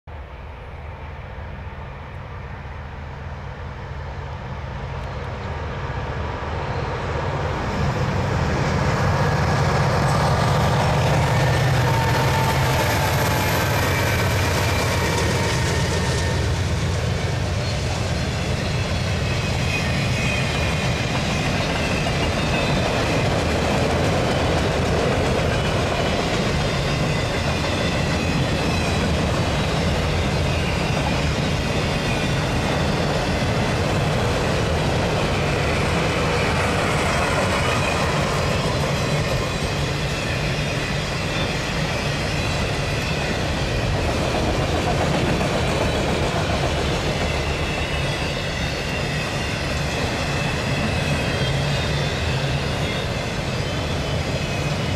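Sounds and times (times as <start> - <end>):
diesel locomotive engine: 0.0 - 54.9
train wheels clattering on rail: 7.8 - 54.9.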